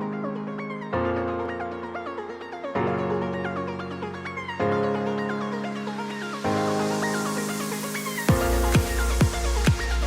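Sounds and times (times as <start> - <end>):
quick keyboard melody: 0.0 - 10.0
sustained keyboard chords: 0.0 - 10.0.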